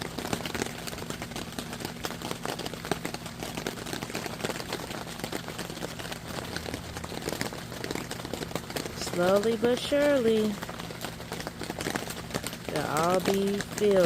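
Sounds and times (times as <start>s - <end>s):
low steady hum: 0.0s - 14.0s
rain pattering on roof: 0.0s - 14.0s.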